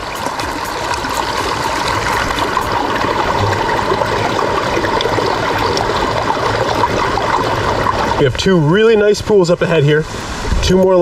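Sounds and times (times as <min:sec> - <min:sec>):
brook water rushing: 0:00.0 - 0:11.0.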